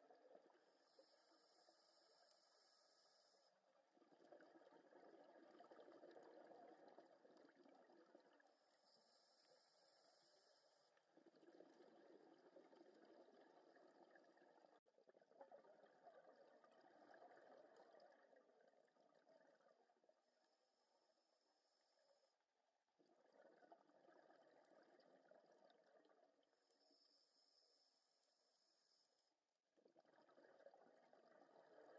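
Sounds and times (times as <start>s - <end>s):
underwater bubbles: 0.0s - 22.3s, 22.9s - 29.0s, 29.8s - 31.9s.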